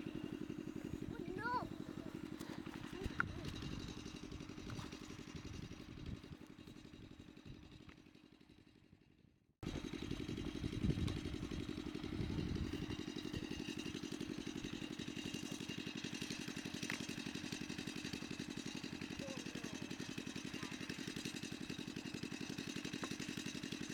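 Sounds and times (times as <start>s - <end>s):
small engine running: 0.0s - 23.9s.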